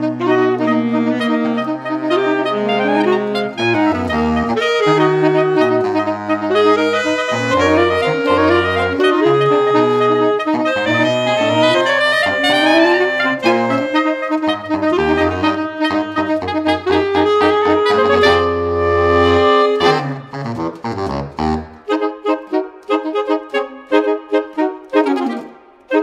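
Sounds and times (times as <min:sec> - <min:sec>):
saxophone quartet playing jazz: 0:00.0 - 0:26.0.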